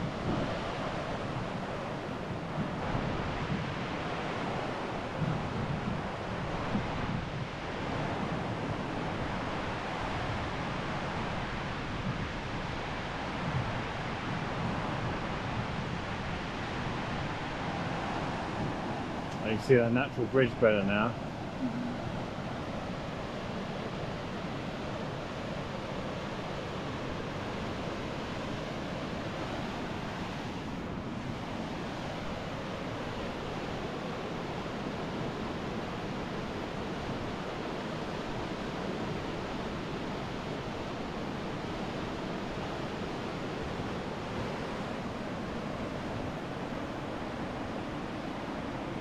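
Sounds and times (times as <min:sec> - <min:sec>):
waterfall torrent rushing: 0:07.5 - 0:49.0.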